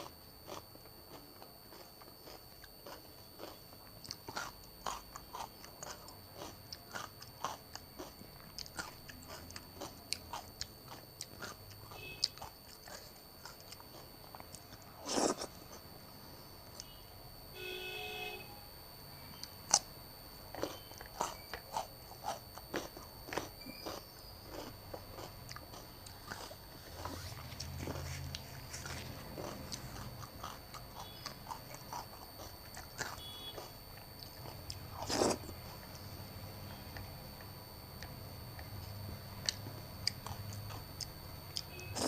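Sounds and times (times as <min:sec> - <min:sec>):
person chewing crunchy food: 0:00.0 - 0:17.0, 0:19.3 - 0:42.0.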